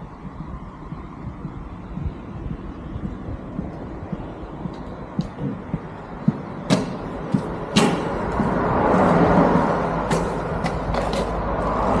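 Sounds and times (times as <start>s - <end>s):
boot footsteps on asphalt: 0.0s - 12.0s
vehicle rumble: 0.0s - 12.0s.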